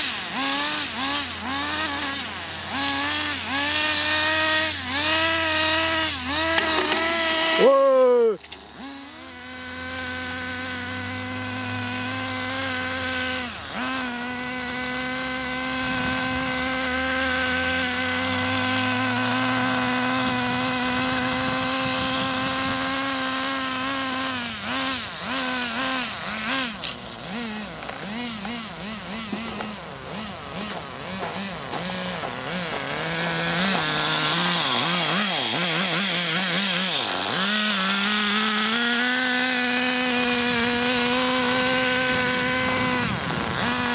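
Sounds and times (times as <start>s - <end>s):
small two-stroke engine revving: 0.0s - 43.9s.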